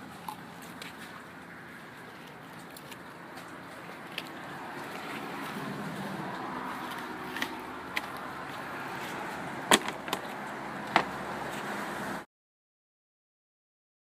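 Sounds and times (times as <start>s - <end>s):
steady background noise: 0.0s - 12.2s.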